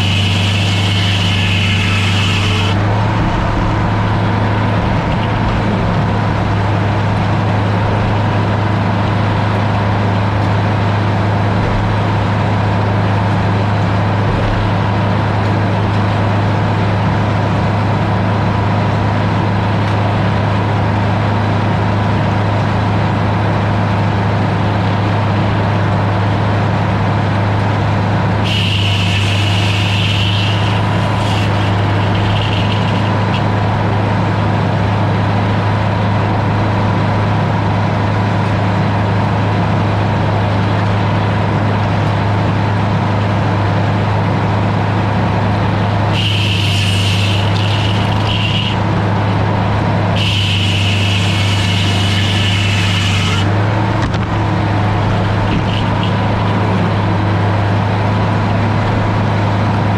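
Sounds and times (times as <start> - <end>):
high whine: 0.0 - 18.8, 27.6 - 37.4, 39.4 - 59.8
heavy engine humming: 0.0 - 59.9.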